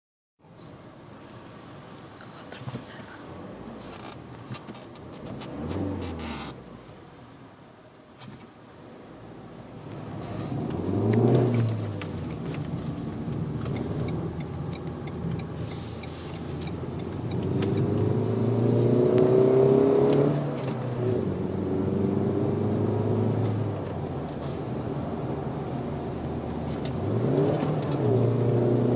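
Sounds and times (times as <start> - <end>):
car engine accelerating: 3.4 - 6.9, 9.2 - 28.9.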